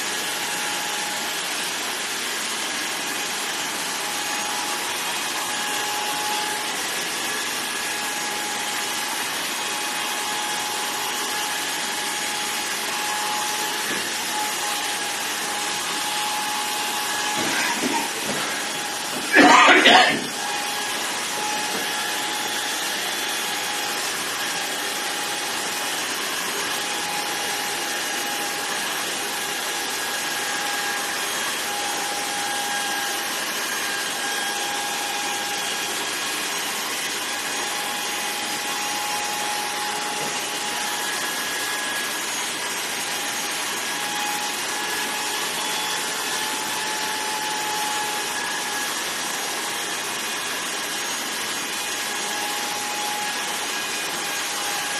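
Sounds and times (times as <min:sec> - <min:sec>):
electric hair clippers running: 0:00.0 - 0:54.9.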